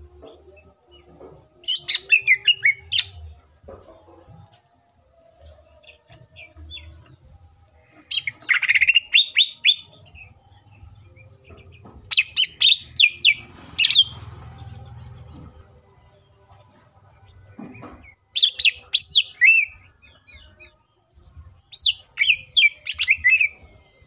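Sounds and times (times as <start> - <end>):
bird singing: 0.0 - 24.0.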